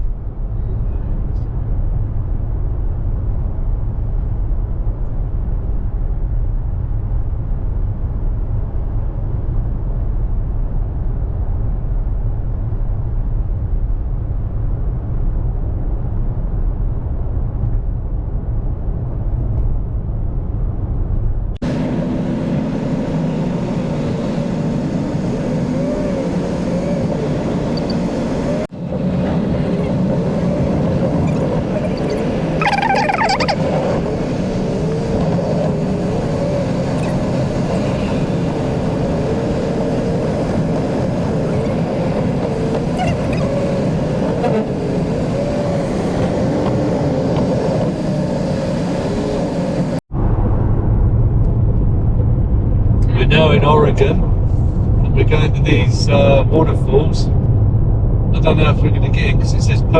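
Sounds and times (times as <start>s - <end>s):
road rumble inside car: 0.0s - 59.9s.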